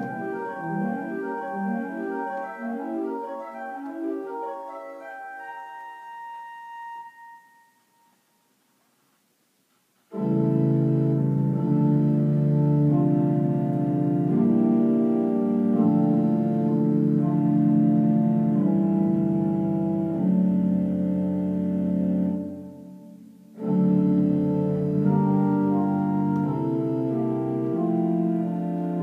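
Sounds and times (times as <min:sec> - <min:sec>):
church organ chords: 0:00.0 - 0:08.3, 0:10.1 - 0:29.0.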